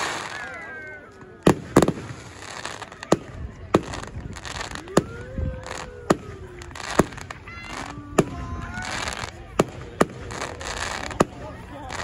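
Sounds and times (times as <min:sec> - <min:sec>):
fireworks crackling and fizzing: 0:00.0 - 0:12.0.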